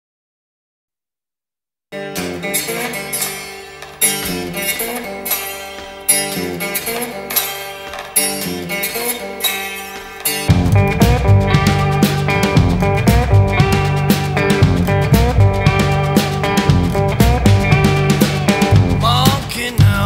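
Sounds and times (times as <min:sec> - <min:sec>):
plucked blues guitar riff: 0:02.0 - 0:20.0.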